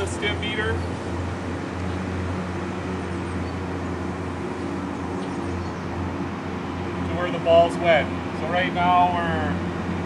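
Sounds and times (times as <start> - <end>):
motor humming steadily: 0.0 - 10.0.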